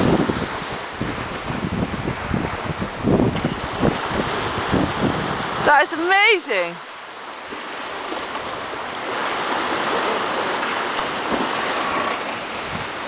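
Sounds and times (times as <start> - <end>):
water rushing past hull: 0.0 - 13.0.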